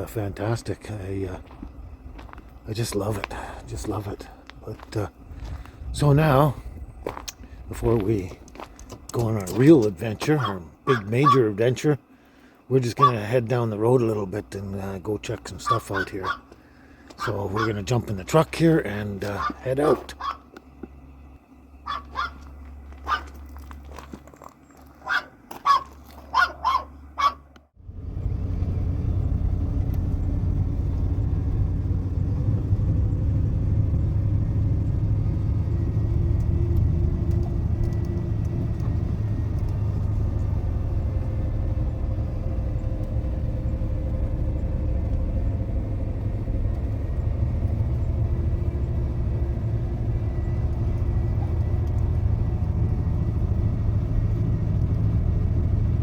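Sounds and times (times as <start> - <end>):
truck driving inside cab: 0.0 - 11.9, 12.8 - 16.5, 17.2 - 56.0.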